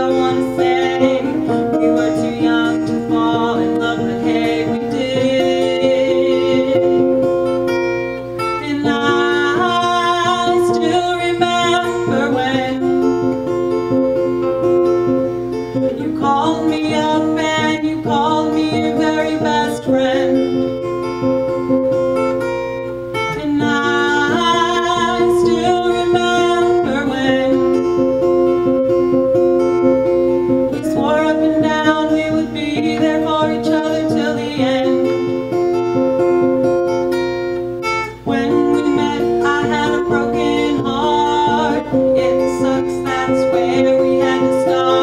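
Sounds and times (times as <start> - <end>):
woman singing: 0.0 - 7.7, 8.4 - 14.9, 15.7 - 21.6, 23.2 - 29.2, 30.1 - 36.6, 38.1 - 45.0
acoustic guitar chords: 0.0 - 45.0.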